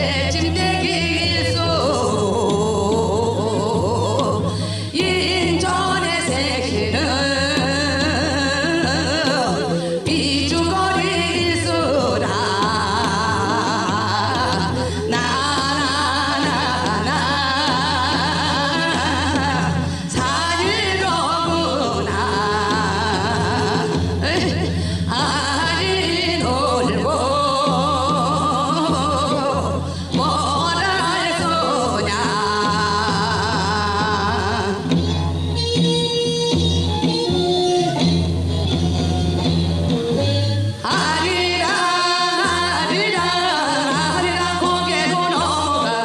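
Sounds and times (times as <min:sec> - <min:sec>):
person singing folk song: 0:00.0 - 0:35.5, 0:38.9 - 0:46.0
accompanying music: 0:00.0 - 0:46.0.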